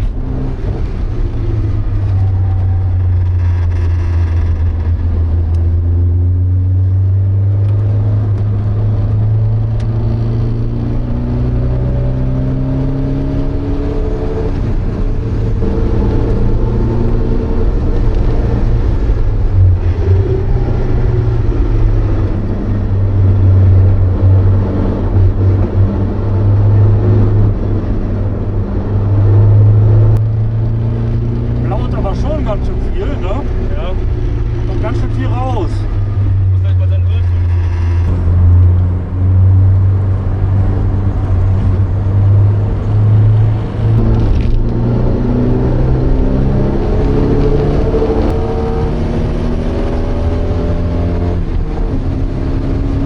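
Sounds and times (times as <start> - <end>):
car engine under load: 0.0 - 53.0.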